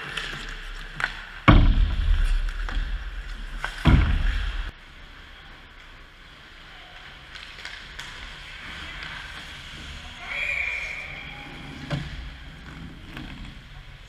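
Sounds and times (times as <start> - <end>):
skates scraping ice: 0.0 - 1.4, 2.1 - 14.0.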